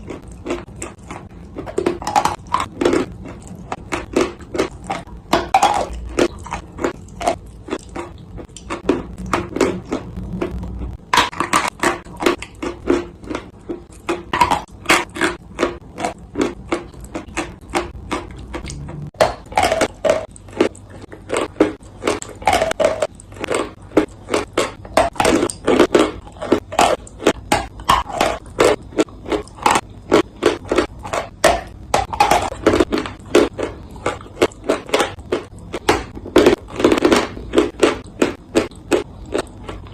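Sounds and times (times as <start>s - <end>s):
chewing crunchy clay: 0.0s - 39.9s.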